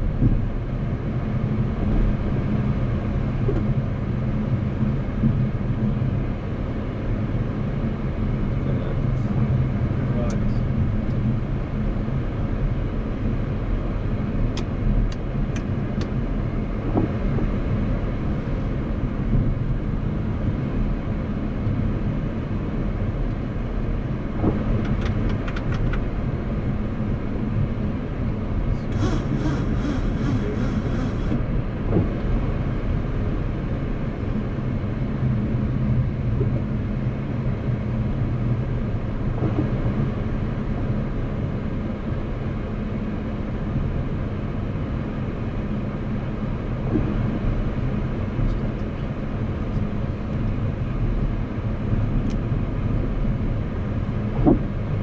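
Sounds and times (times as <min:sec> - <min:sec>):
cockpit engine and airflow noise: 0:00.0 - 0:55.0.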